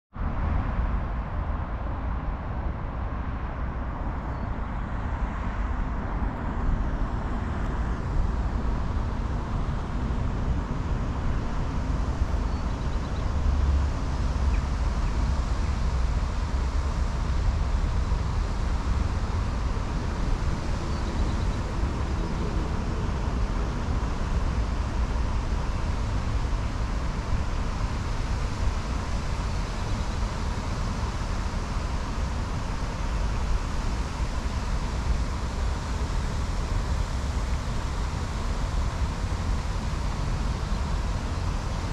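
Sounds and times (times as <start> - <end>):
distant road traffic: 0.2 - 41.9.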